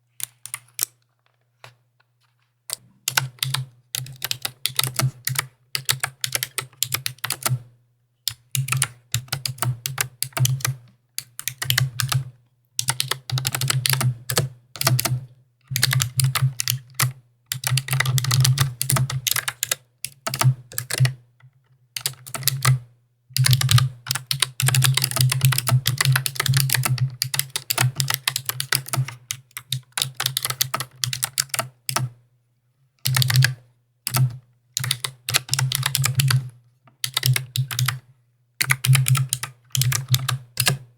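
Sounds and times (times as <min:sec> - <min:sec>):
mechanical keyboard typing: 0:00.2 - 0:01.0, 0:02.7 - 0:07.6, 0:08.3 - 0:12.2, 0:12.8 - 0:21.2, 0:22.0 - 0:22.8, 0:23.4 - 0:32.2, 0:33.1 - 0:33.5, 0:34.1 - 0:38.0, 0:38.6 - 0:40.8.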